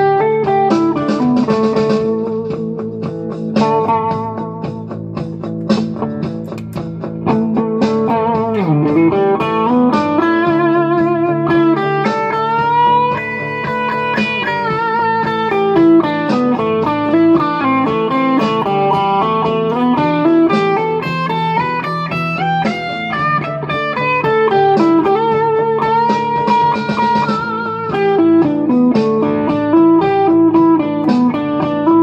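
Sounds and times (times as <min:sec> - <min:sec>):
electric guitar lead line: 0:00.0 - 0:32.0.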